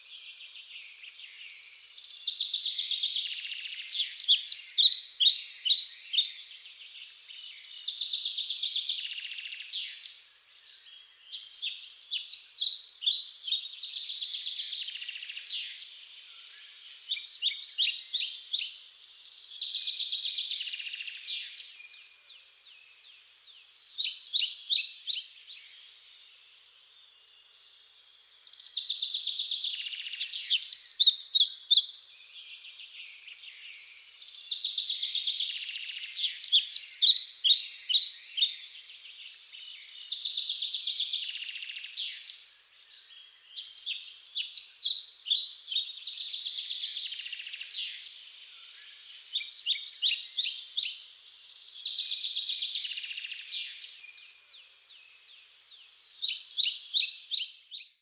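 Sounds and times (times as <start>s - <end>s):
songbirds trilling and chirping: 0.0s - 58.0s.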